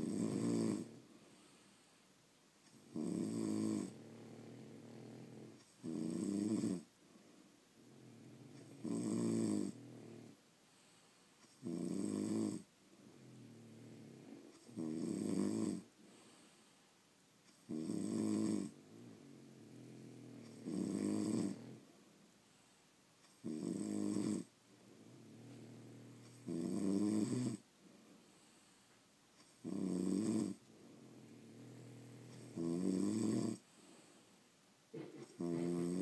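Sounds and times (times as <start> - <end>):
dog snoring: 0.0 - 1.8, 2.7 - 6.9, 7.8 - 16.7, 17.5 - 21.9, 23.2 - 27.7, 29.4 - 34.2, 34.9 - 36.0
quiet dog breathing: 0.0 - 36.0.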